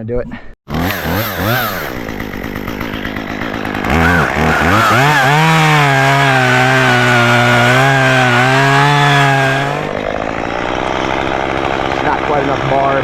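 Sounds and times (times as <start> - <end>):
chainsaw cutting wood: 0.7 - 13.0.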